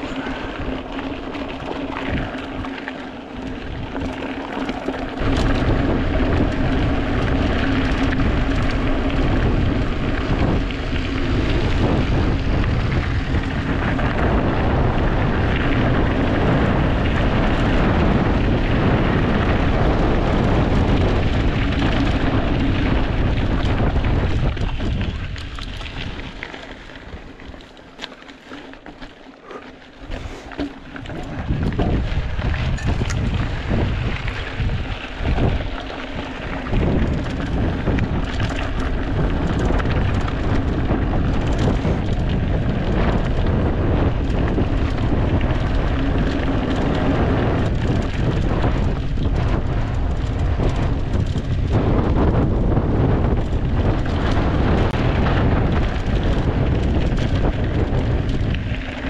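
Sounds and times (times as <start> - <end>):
mountain bike rolling noise: 0.0 - 59.0
wind rumbling on microphone: 0.0 - 59.0.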